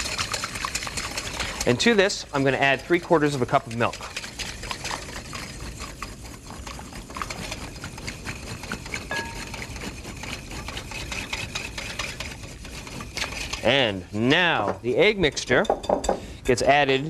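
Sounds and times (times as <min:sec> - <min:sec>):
whisk clicking in glass bowl: 0:00.0 - 0:13.8.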